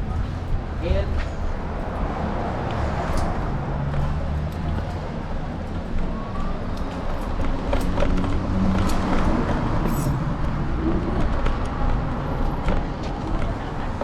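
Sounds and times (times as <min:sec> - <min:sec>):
cars driving by: 0:00.0 - 0:14.0.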